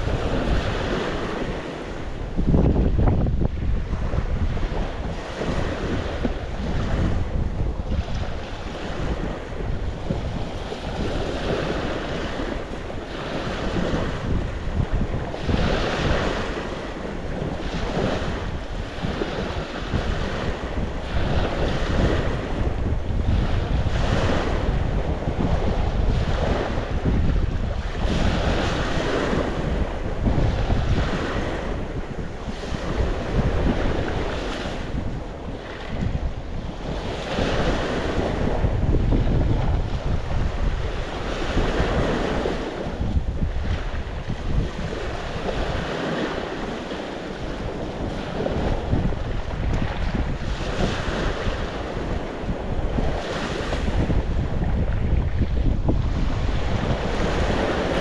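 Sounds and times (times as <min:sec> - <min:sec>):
sea waves washing ashore: 0:00.0 - 0:58.0
wind buffeting the microphone: 0:00.0 - 0:58.0.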